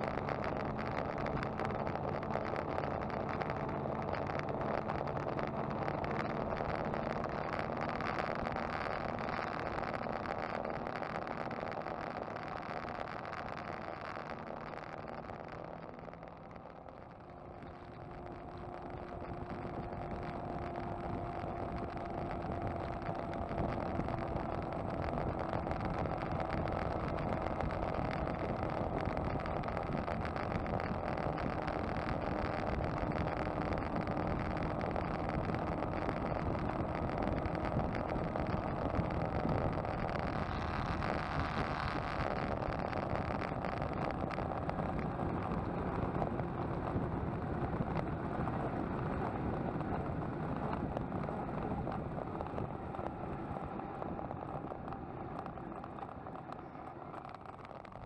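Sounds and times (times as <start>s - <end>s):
motorcycle engine drone: 0.0s - 58.0s
wind and road noise: 0.0s - 58.0s.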